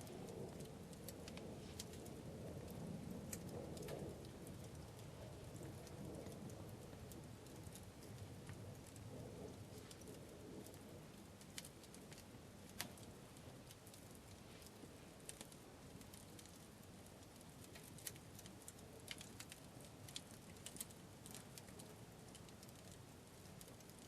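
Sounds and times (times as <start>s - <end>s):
campfire crackling: 0.0s - 24.0s
wood popping in fire: 0.0s - 24.0s.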